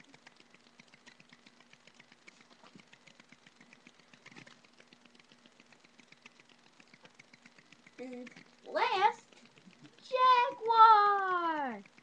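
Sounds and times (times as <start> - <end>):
faint irregular clicks: 0.0 - 12.0
low steady hum: 0.0 - 12.0.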